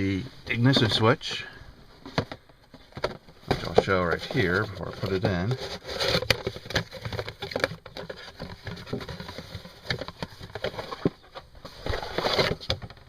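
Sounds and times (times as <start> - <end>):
plastic part handling crackle: 0.5 - 13.0.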